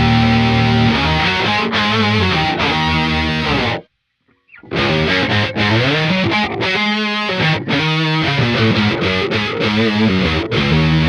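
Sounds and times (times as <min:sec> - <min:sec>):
distorted electric bass riff: 0:00.0 - 0:03.8, 0:04.6 - 0:11.0.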